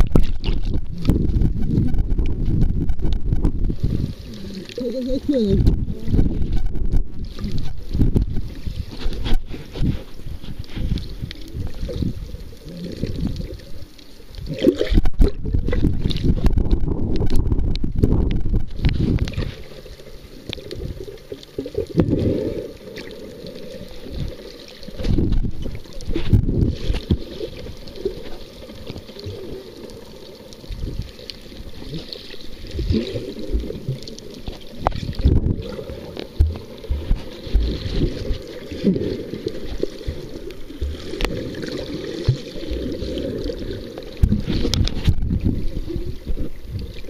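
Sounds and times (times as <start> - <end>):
underwater sloshing and bubbling: 0.0 - 47.0.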